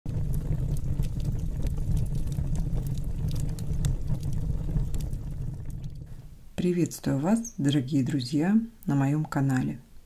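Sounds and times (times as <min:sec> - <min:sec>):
low rumble of flames: 0:00.1 - 0:08.3
fire crackles and pops: 0:00.1 - 0:09.0.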